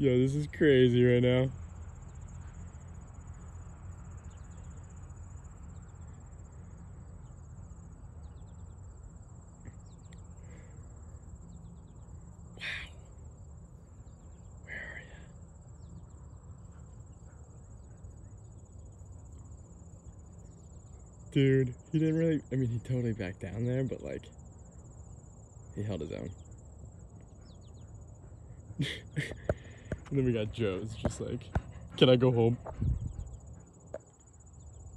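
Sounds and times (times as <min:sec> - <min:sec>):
insects chirring: 0:00.0 - 0:34.9.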